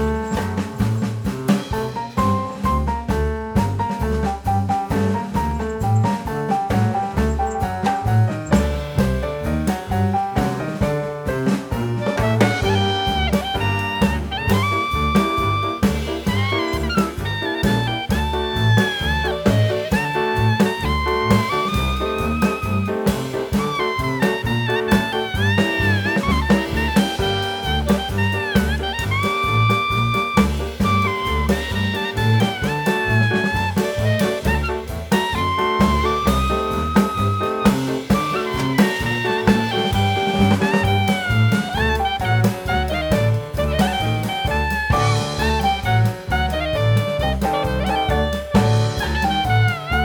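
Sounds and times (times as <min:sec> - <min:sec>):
drum kit: 0:00.0 - 0:50.0
walking bass line: 0:00.0 - 0:50.0
saxophone melody: 0:08.5 - 0:50.0.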